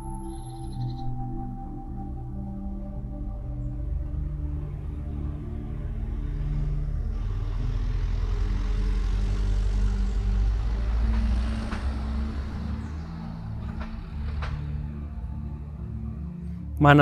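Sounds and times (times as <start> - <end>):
soft ambient music: 0.0 - 17.0.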